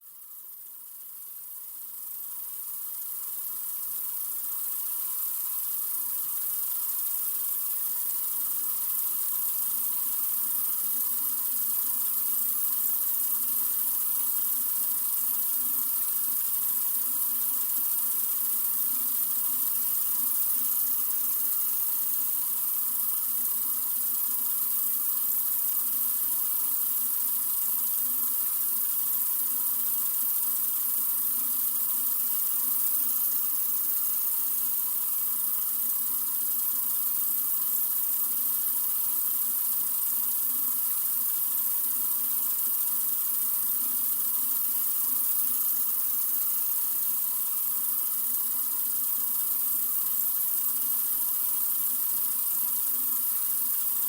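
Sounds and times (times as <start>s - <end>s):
water running from faucet: 3.0s - 54.0s.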